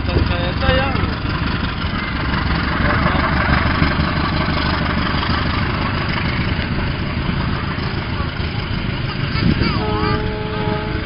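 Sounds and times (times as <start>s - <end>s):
diesel train engine running: 0.0s - 11.0s
train carriages rolling over rails: 0.0s - 11.0s.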